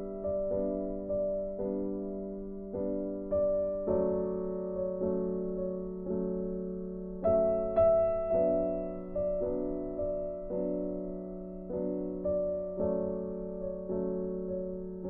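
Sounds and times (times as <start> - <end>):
slow piano piece: 0.0 - 15.0.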